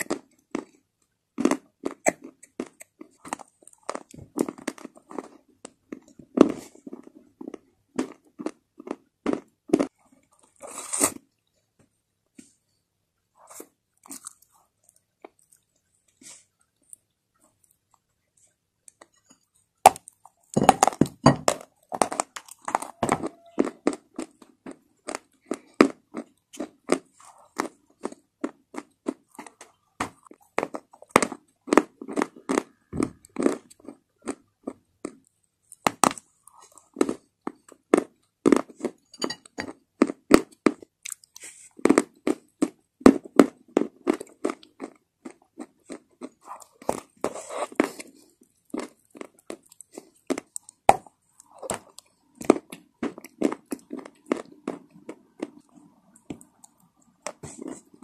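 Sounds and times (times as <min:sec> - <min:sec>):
crunching and chewing: 0:00.0 - 0:11.5, 0:13.4 - 0:58.0.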